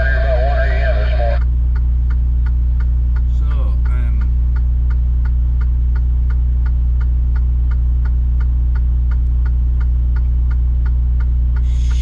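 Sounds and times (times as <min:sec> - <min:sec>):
diesel engine idling: 0:00.0 - 0:12.0
even ticking: 0:01.4 - 0:12.0.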